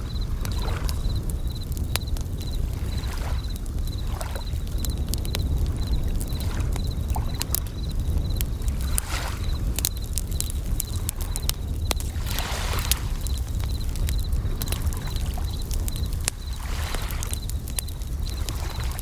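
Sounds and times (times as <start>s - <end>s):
campfire crackling and popping: 0.0s - 19.0s
crickets chirping in high trills: 0.0s - 19.0s
waves washing: 0.0s - 19.0s.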